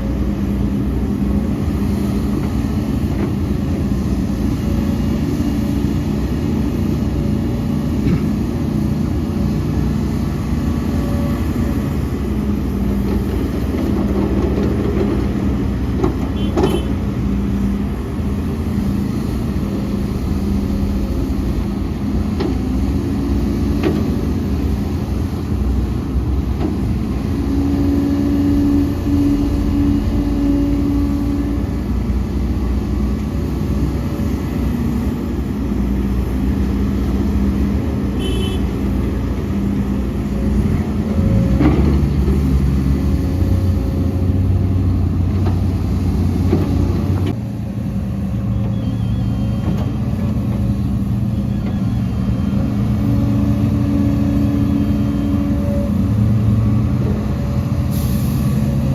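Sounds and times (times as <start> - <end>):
diesel machinery engines running: 0.0 - 58.9.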